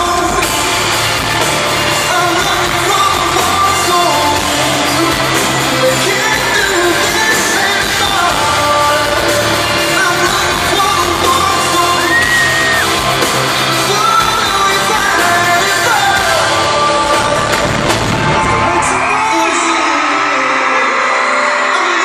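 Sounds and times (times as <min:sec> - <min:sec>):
audience yelling: 0:00.0 - 0:22.0
boy band singing: 0:00.0 - 0:22.0
loud amplified backing music: 0:00.0 - 0:22.0.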